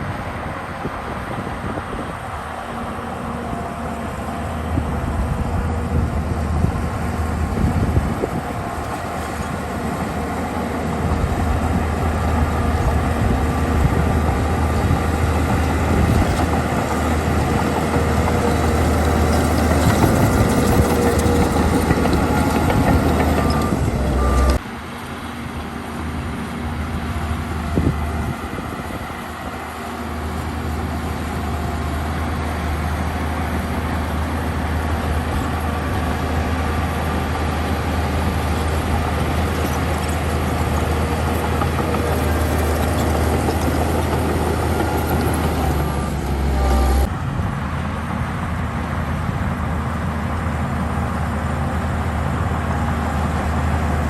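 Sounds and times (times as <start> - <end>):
heavy diesel machinery engines running: 0.0 - 54.0.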